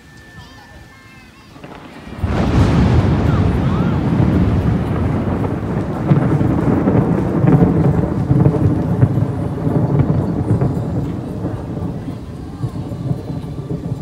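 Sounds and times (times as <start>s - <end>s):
wind buffeting microphone: 1.5s - 14.0s.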